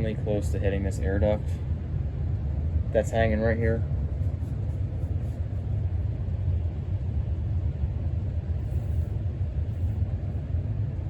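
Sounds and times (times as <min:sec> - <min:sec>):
air moving off fan blades: 0:00.0 - 0:11.0
ceiling fan motor rumbling: 0:00.0 - 0:11.0.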